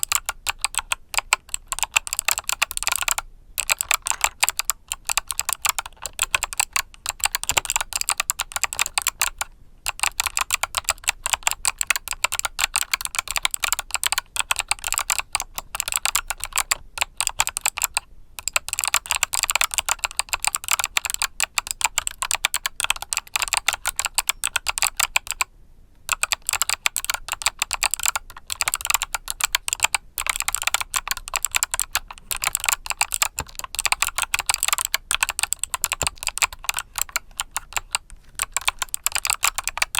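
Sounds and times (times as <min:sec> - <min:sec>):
typing on mechanical keyboard: 0:00.0 - 0:25.5, 0:26.1 - 0:39.9.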